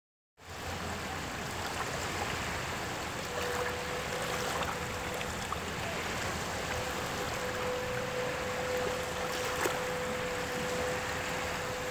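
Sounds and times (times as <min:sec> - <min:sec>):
faint steady tone: 0:00.4 - 0:11.9
small waves lapping on shore: 0:00.4 - 0:11.9.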